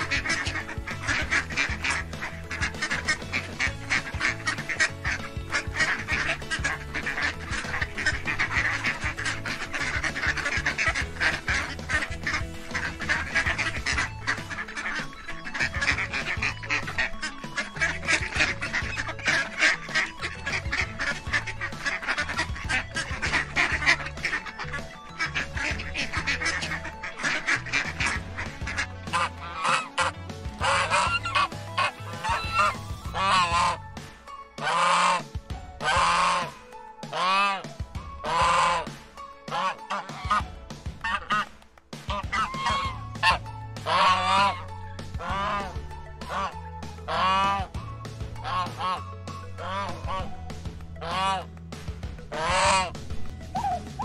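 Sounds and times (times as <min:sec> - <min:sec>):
ducks quacking: 0:00.0 - 0:51.5, 0:52.2 - 0:54.0
background music: 0:00.0 - 0:54.0.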